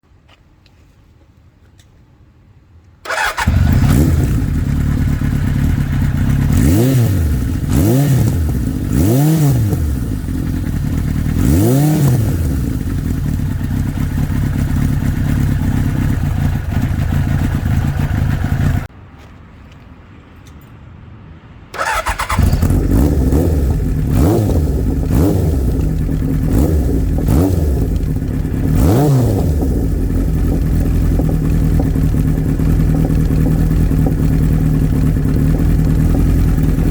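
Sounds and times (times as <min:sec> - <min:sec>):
motorcycle engine idling with throttle blips: 0:03.1 - 0:18.9, 0:21.8 - 0:36.9.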